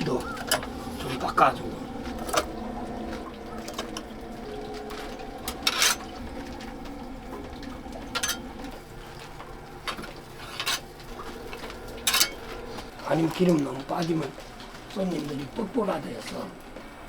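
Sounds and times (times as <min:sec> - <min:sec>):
ducks clattering in an oven: 0:00.0 - 0:17.0
steady hiss and hum: 0:00.0 - 0:17.0.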